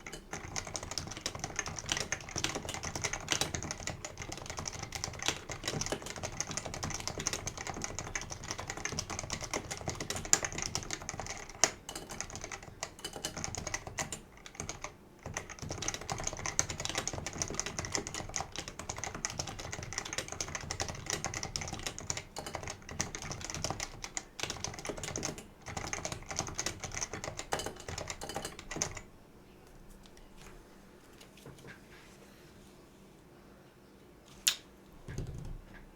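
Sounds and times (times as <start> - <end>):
keyboard typing: 0.0 - 29.1.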